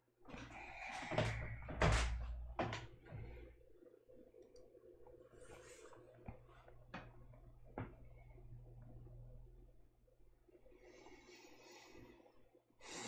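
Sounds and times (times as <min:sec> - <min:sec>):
low electrical hum: 0:00.1 - 0:12.9.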